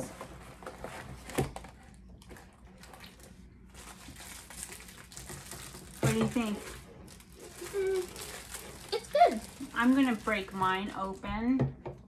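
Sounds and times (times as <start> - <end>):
snack packaging rustling: 0.0 - 11.3.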